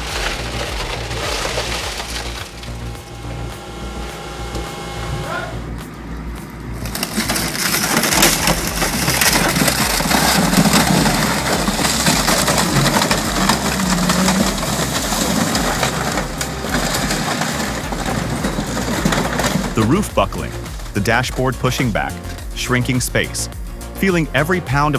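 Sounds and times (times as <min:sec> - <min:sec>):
metal crunching and grinding: 0:00.0 - 0:24.9.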